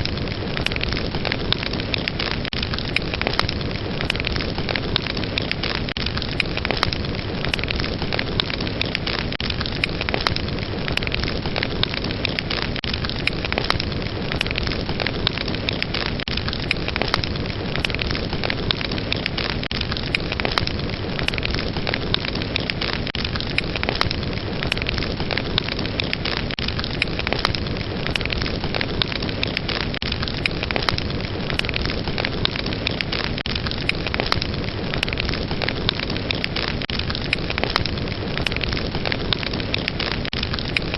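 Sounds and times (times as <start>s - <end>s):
fireplace fire crackling: 0.0s - 40.9s.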